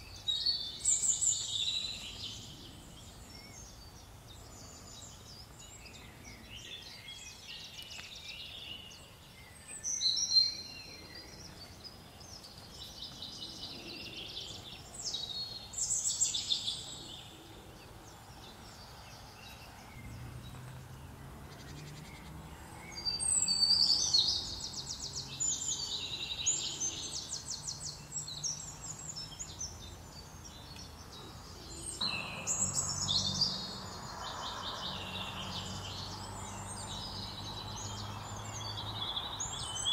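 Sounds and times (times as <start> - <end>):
songbird singing with trills: 0.0 - 39.9.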